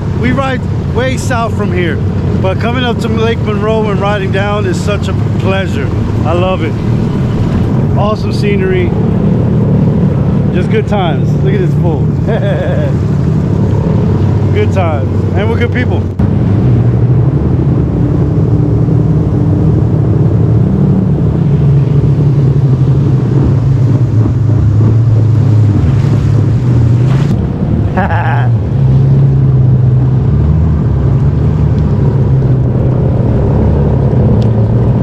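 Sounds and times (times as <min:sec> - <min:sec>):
jet ski engine running: 0:00.0 - 0:35.0
rushing wind: 0:00.0 - 0:35.0.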